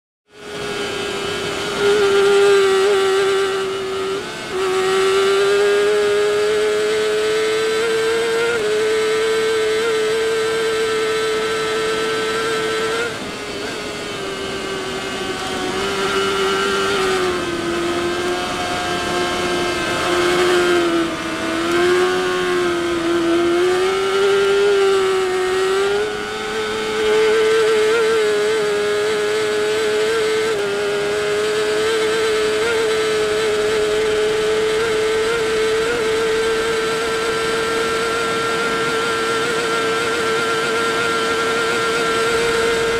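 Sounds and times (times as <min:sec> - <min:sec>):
motorcycle engine at high revs: 0:00.2 - 0:42.9.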